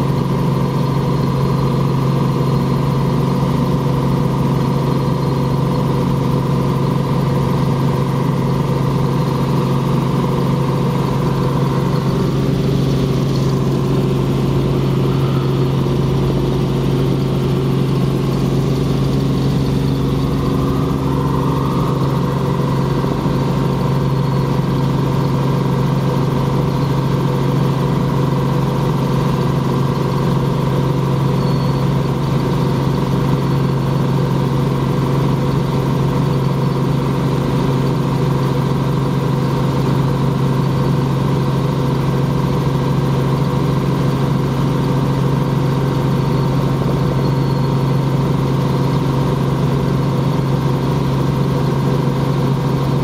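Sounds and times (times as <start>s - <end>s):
helicopter engine and rotors: 0.0s - 53.0s.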